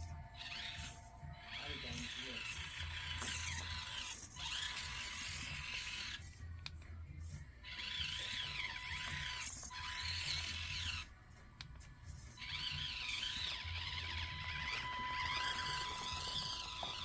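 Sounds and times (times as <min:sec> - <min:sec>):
toy car electric motor whining: 0:00.0 - 0:11.2, 0:11.8 - 0:17.0.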